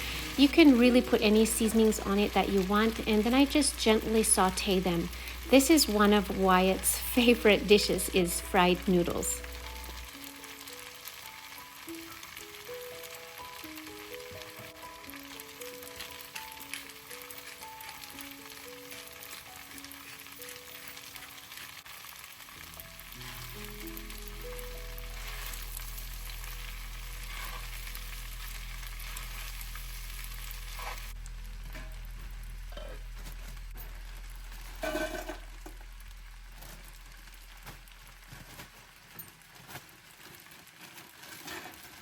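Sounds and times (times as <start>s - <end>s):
soft background music: 0.0s - 39.8s
noodles sizzling in a pan: 0.0s - 42.0s.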